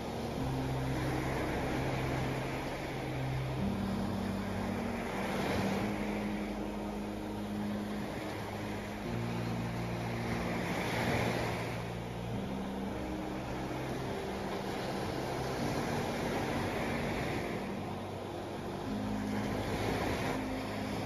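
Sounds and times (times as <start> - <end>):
low held tones: 0.0 - 21.0
waves breaking on sandy beach: 0.0 - 21.0.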